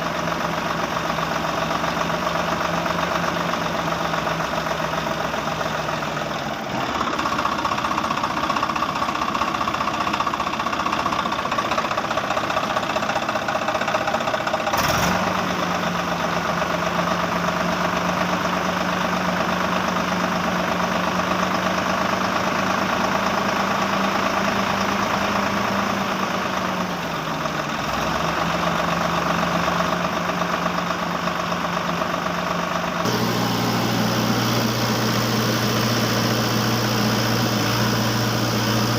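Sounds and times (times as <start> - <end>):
engine idling with knocking: 0.0 - 38.9.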